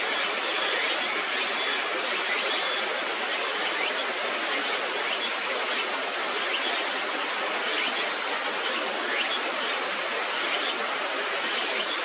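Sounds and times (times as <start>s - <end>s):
river water rushing: 0.1s - 12.0s.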